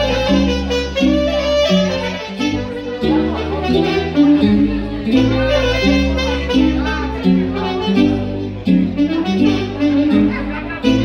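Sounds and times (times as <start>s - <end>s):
electronic keyboard backing: 0.0s - 11.0s
saxophone melody: 0.0s - 11.0s.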